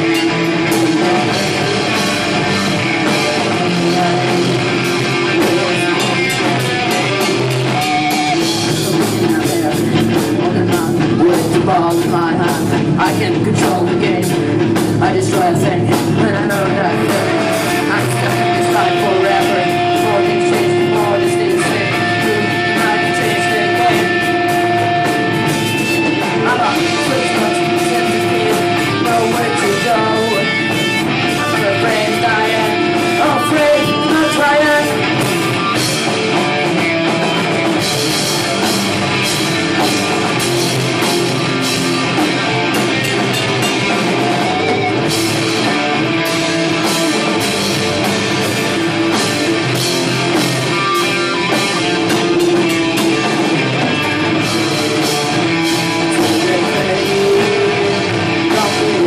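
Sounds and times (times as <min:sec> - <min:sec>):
live rock band playing loud: 0:00.0 - 0:59.0.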